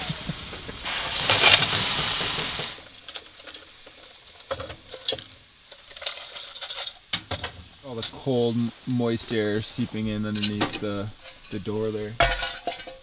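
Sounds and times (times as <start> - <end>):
snow sizzling on hot stove: 0.0 - 13.0.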